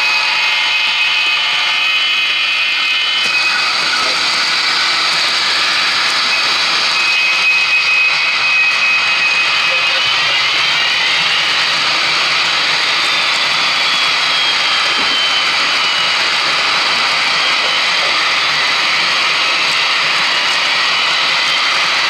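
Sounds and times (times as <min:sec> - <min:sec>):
faint high whine: 0:00.0 - 0:21.7
model train diesel engine sound: 0:00.0 - 0:22.0
model train wheels on track: 0:00.0 - 0:22.0.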